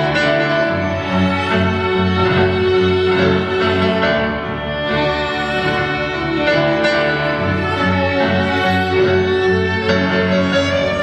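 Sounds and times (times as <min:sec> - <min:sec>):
grand piano playing: 0:00.0 - 0:11.0.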